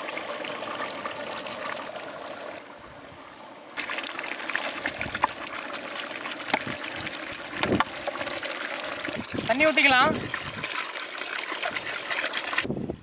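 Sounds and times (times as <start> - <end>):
gravy simmering and bubbling: 0.0 - 2.6, 3.8 - 12.7.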